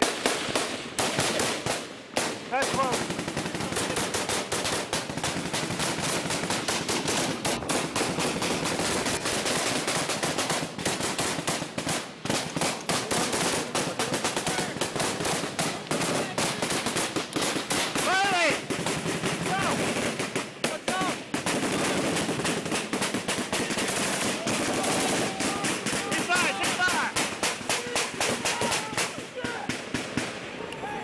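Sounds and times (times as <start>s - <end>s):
rifles and machine guns firing: 0.0s - 30.4s.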